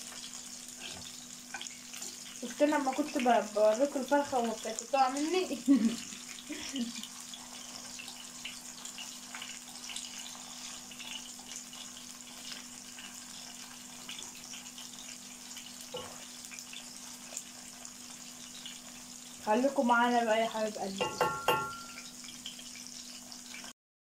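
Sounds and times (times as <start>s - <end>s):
patties sizzling in oil: 0.0s - 23.8s.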